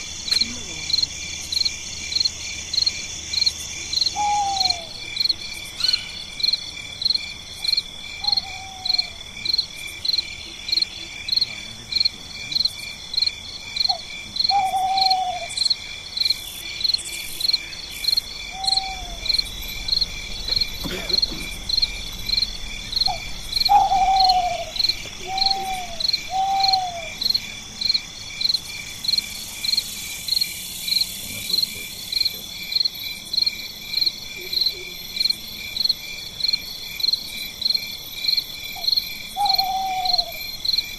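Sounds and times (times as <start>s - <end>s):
high insect drone: 0.0s - 40.9s
insects pulsing chirp: 0.0s - 40.9s.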